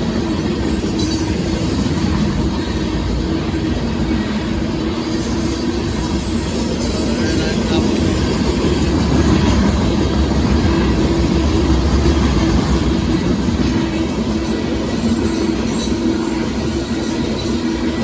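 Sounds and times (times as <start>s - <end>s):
freight train rolling past: 0.0s - 18.0s
steel wheels rattling on rail: 0.0s - 18.0s.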